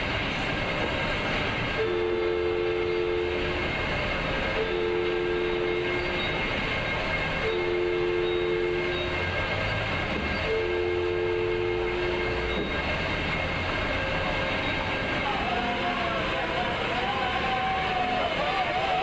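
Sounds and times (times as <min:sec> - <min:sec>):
heavy machinery noise: 0:00.0 - 0:19.0
two-tone horn blasts: 0:01.7 - 0:19.0.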